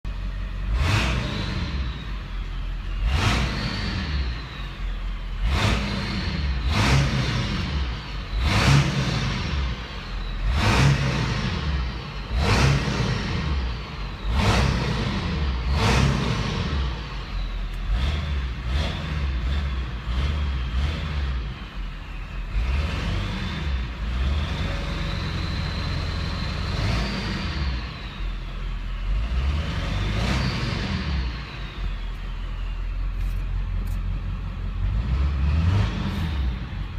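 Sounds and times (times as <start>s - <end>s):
diesel engine running: 0.0s - 36.9s
turbocharger whistle: 0.7s - 36.9s.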